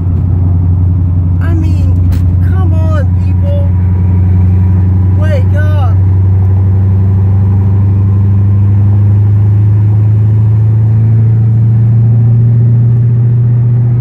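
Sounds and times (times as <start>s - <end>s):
car engine and road drone: 0.0s - 14.0s.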